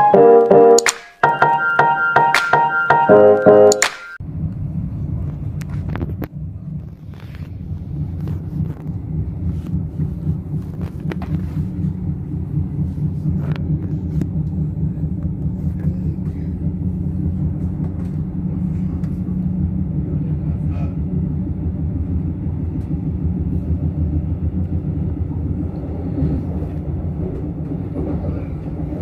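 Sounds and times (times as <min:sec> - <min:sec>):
train rumble inside carriage: 0:04.2 - 0:29.0.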